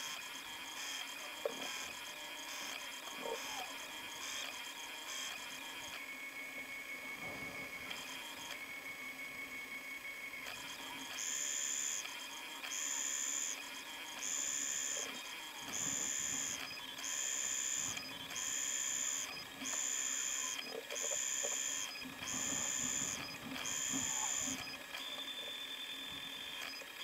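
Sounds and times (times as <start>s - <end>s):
steady printer hum: 0.0s - 27.0s
stepper motor whine: 0.0s - 27.0s.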